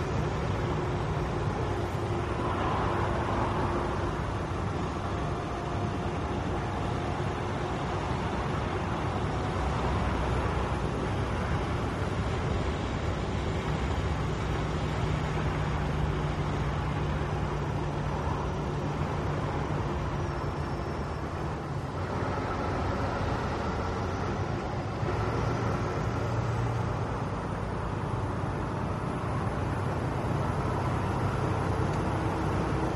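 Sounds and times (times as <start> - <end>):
truck engine drone: 0.0 - 32.9
tyre and road noise: 0.0 - 32.9.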